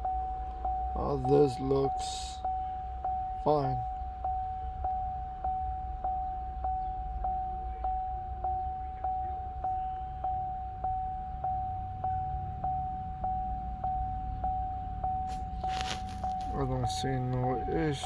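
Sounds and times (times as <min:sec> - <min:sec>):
car warning chime dinging: 0:00.0 - 0:18.0
low steady hum: 0:00.0 - 0:18.0.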